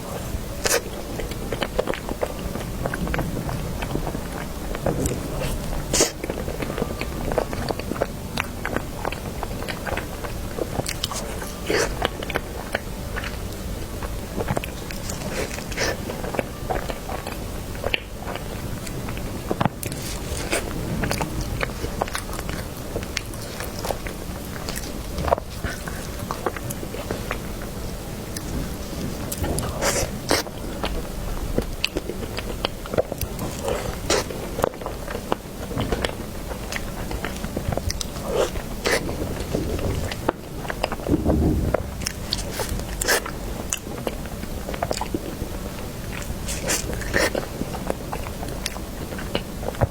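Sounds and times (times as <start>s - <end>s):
person chewing cake: 0.0s - 49.9s.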